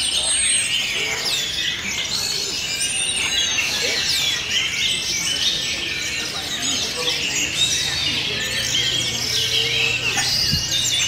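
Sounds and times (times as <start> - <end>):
many birds singing: 0.0 - 11.0.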